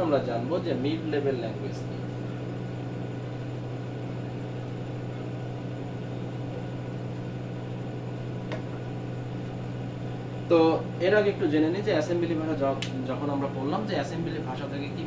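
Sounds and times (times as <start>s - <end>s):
low room hum with hiss: 0.0s - 15.0s.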